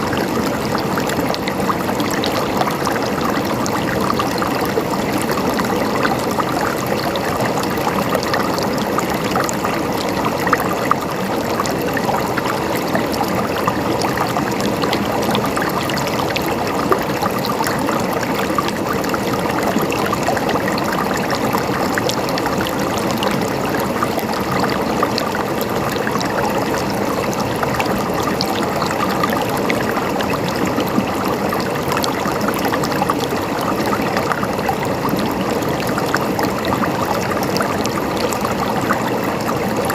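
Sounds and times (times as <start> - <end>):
river water splashing over rocks: 0.0 - 39.9.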